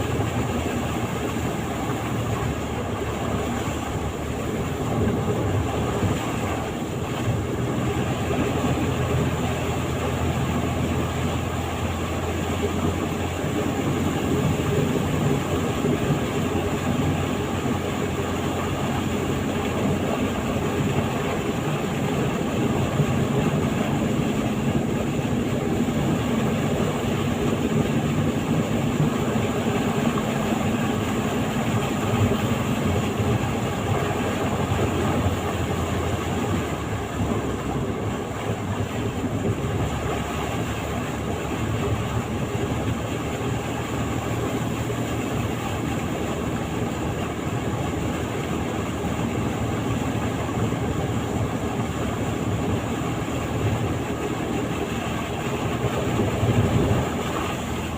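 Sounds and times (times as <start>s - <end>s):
road and wind rumble: 0.0s - 57.9s
vehicle engine hum: 0.0s - 57.9s.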